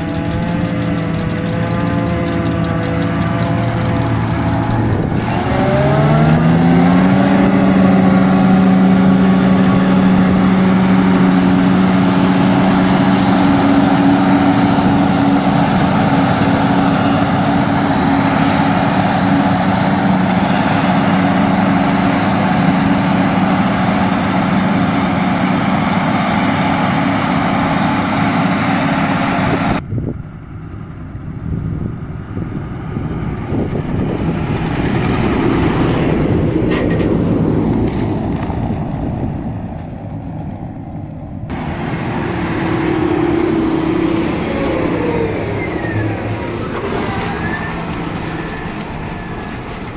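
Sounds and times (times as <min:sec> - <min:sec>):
forage harvester machine hum: 0:00.0 - 0:49.9
rough engine sound: 0:00.0 - 0:49.9.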